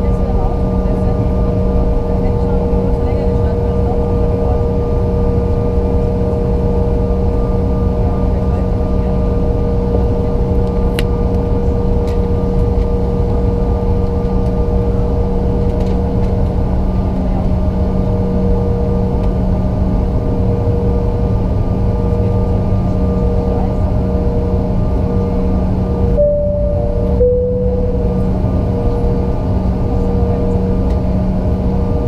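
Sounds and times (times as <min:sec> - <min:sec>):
jet engines roaring in cabin: 0:00.0 - 0:32.0.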